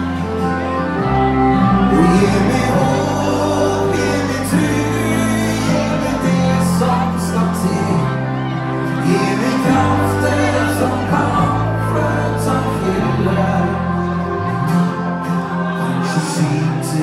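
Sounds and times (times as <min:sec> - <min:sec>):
country-rock band playing: 0:00.0 - 0:17.0
lead singer singing: 0:00.0 - 0:17.0.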